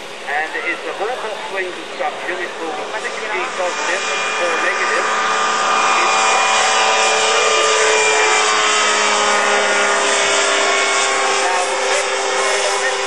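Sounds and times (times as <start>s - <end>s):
ultralight aircraft engine droning: 0.0s - 13.0s.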